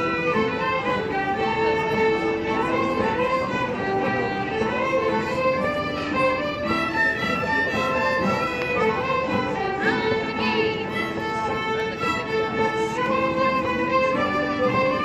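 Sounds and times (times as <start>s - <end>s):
folk ensemble playing: 0.0s - 15.0s.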